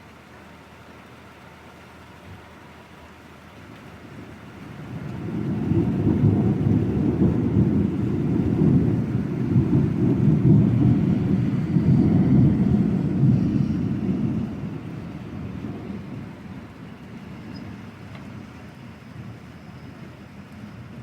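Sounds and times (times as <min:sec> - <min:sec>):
thunder rumbling: 0:04.0 - 0:21.0.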